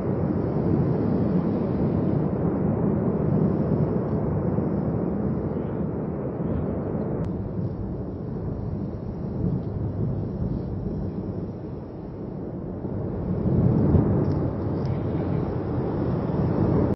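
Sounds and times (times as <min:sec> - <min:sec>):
volcano rumbling: 0:00.0 - 0:16.9.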